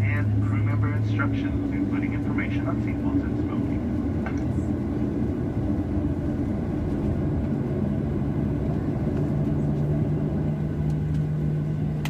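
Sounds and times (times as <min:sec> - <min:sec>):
aircraft cabin low rumble: 0:00.0 - 0:12.0
low steady hum: 0:00.0 - 0:12.0.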